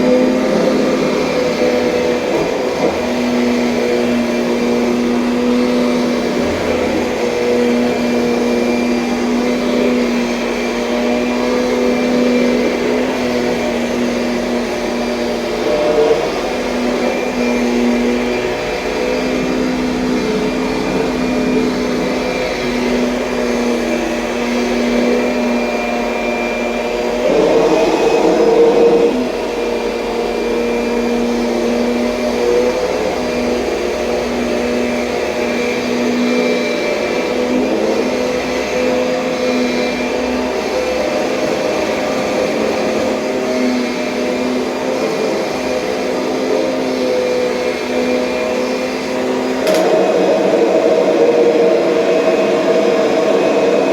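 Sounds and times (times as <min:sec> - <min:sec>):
vacuum cleaner motor hum: 0:00.0 - 0:53.9.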